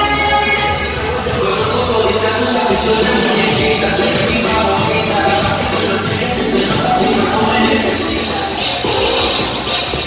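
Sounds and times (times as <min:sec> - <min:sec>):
loud dance music with vocals: 0:00.0 - 0:10.0.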